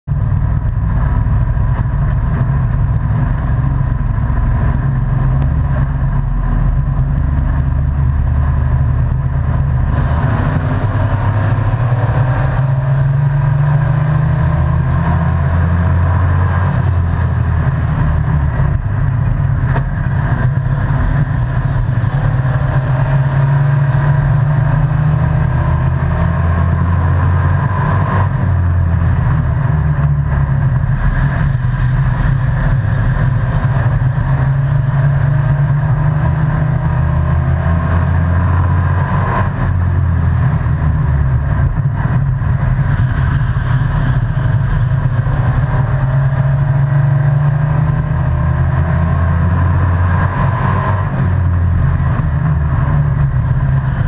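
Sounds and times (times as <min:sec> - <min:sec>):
truck engine from inside cab: 0:00.1 - 0:54.0.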